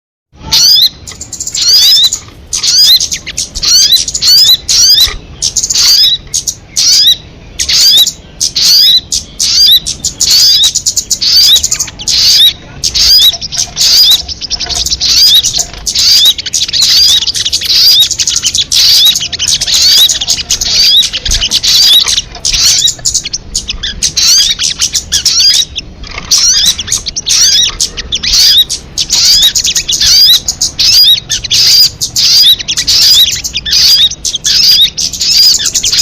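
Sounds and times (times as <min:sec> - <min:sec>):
bird chirping calls: 0:00.4 - 0:36.0.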